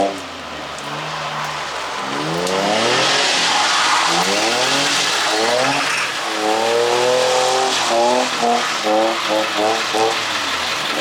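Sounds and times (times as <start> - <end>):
car engine revving hard: 0.0 - 11.0
tyres sliding on wet pavement: 0.0 - 11.0.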